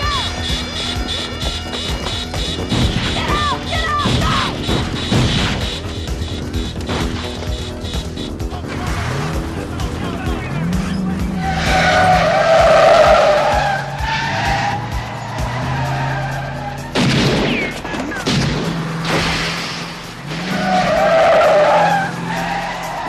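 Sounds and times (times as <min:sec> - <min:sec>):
background music: 0:00.0 - 0:23.0
car engines revving hard: 0:00.0 - 0:23.0
tires squealing: 0:00.0 - 0:23.0.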